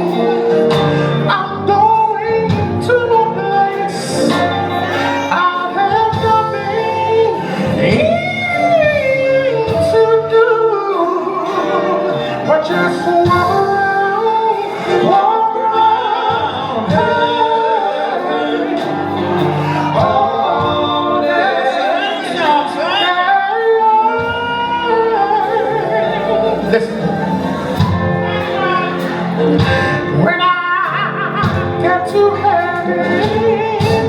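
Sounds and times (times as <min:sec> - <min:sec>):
musical accompaniment: 0:00.0 - 0:34.0
person singing gospel: 0:00.0 - 0:34.0.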